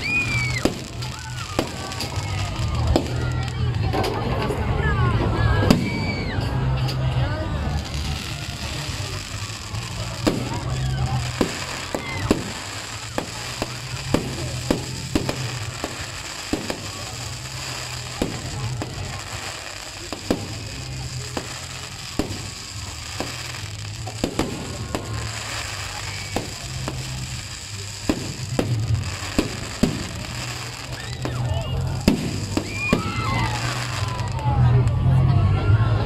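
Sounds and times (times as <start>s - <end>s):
fireworks bangs: 0.0s - 34.7s
fireworks crackling: 0.0s - 35.3s.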